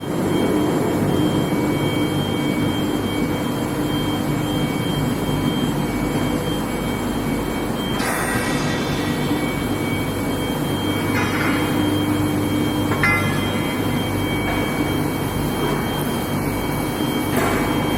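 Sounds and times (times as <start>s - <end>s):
machine high whine: 0.0s - 17.9s
machine low hum: 0.0s - 17.9s.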